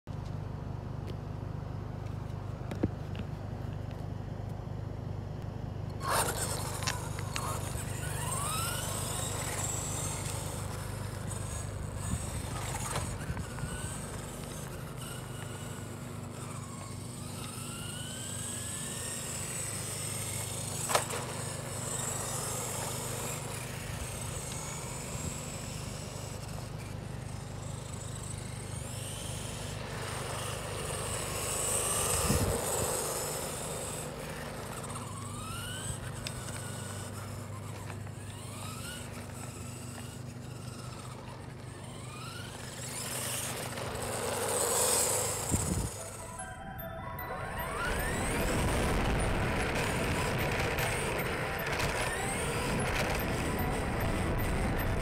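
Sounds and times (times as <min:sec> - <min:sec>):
steady low hum: 0:00.1 - 0:55.0
electric rc truck motor whining: 0:05.8 - 0:55.0.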